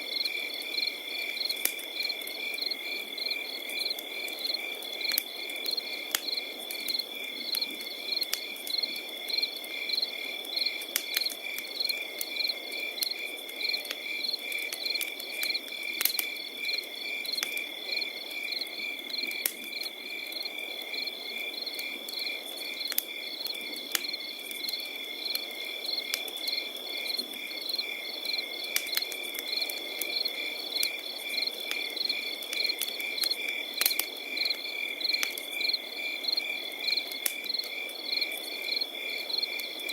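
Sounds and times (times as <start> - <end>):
campfire crackling and popping: 0.0 - 39.9
crickets chirping: 0.1 - 39.9.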